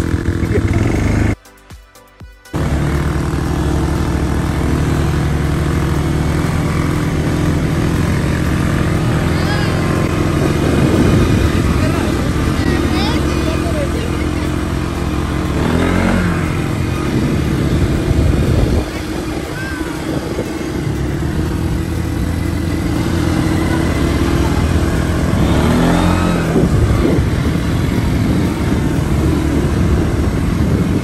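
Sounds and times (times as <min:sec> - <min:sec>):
vehicle engine running: 0:00.0 - 0:01.5, 0:02.5 - 0:31.0.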